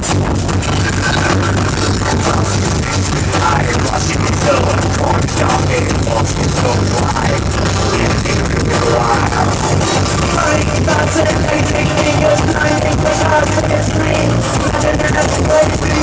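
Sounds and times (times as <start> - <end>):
electro-industrial band playing live: 0.0 - 16.0.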